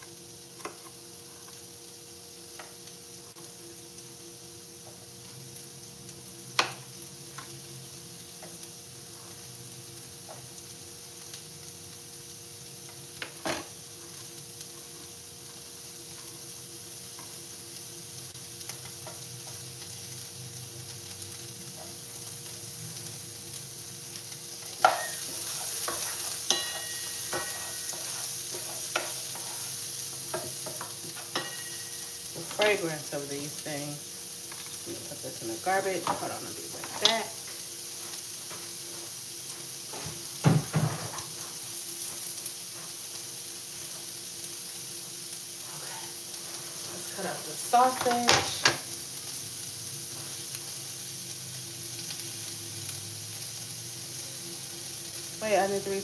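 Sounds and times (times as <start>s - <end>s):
vegetables sizzling in a frying pan: 0.0s - 56.0s.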